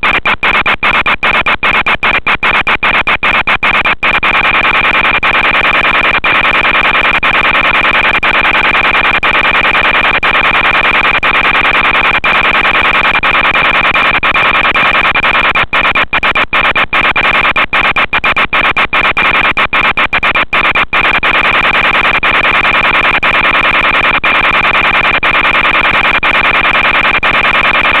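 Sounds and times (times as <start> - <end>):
steady buzzing tone: 0.0 - 28.0.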